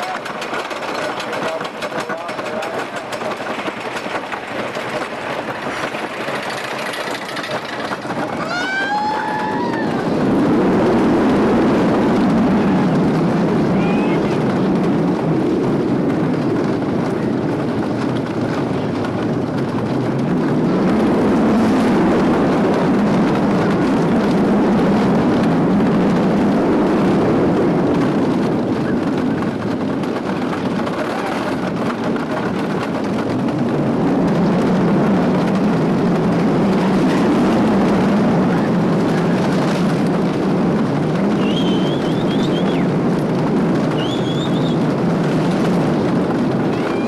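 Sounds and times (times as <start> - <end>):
roller coaster rumble and clatter: 0.0 - 47.0.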